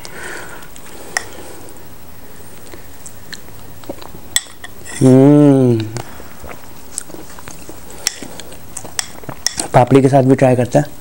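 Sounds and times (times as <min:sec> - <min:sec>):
faint eating sounds: 0:00.0 - 0:11.0.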